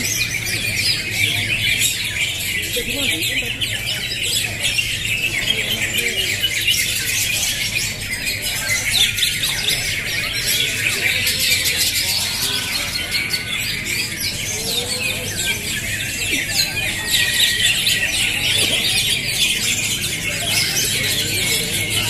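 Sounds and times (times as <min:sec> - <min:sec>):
chorus of birds singing: 0:00.0 - 0:22.0.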